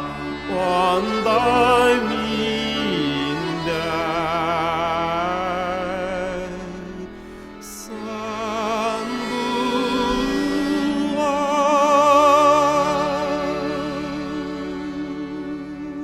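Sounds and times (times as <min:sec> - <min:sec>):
backing music: 0:00.0 - 0:16.0
singing voice with vibrato: 0:00.0 - 0:16.0.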